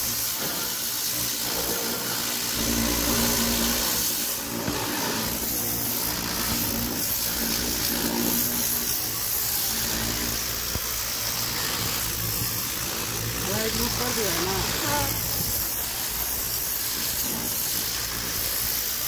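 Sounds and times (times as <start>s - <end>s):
motor and pump hum: 0.0s - 19.0s
pressure washer water jet hissing: 0.0s - 19.0s.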